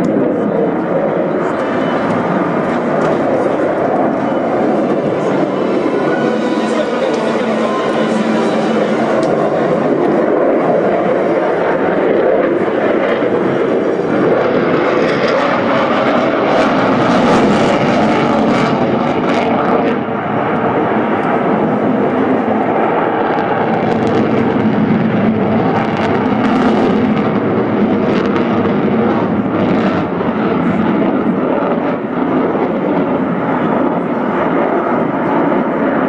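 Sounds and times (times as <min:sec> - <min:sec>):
fighter jet engines roaring: 0:00.0 - 0:36.0.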